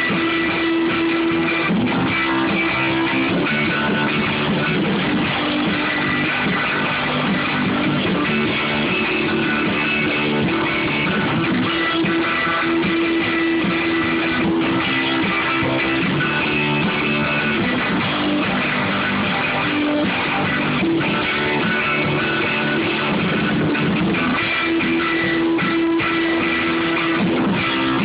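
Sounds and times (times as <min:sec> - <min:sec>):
electric guitar chords: 0:00.0 - 0:28.0
rock band playing: 0:00.0 - 0:28.0.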